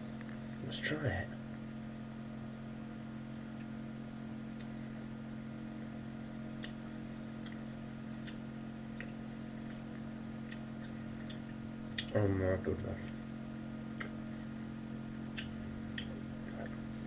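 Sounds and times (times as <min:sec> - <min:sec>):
dehydrator electric hum: 0:00.0 - 0:17.0.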